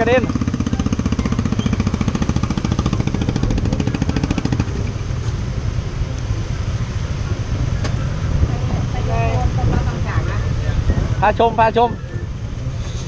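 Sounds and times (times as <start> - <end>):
motor scooter engine running: 0.0 - 12.7
road and wind noise: 0.0 - 13.0.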